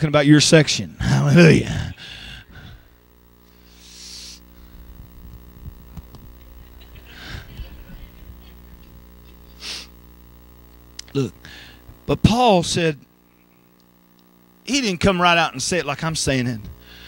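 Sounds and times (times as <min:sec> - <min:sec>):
sound system electrical hum: 0:00.0 - 0:17.0.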